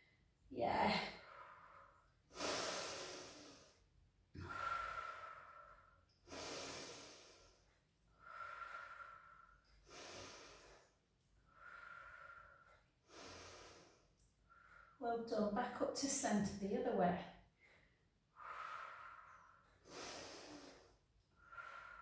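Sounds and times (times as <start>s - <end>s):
woman breathing slowly: 1.0s - 15.0s, 17.4s - 22.0s.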